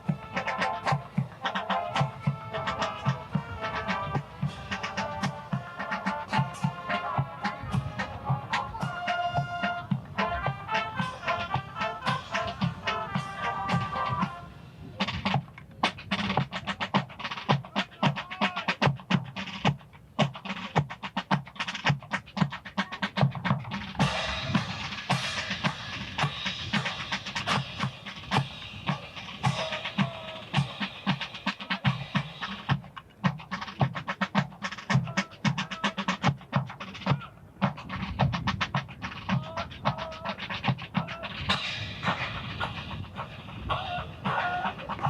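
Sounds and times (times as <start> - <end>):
drums playing quick cadence: 0.0 - 45.0.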